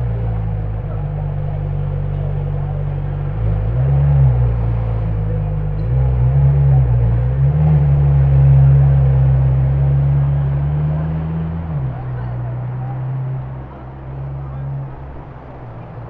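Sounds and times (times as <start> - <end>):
car engine with deep exhaust drone: 0.0 - 16.0.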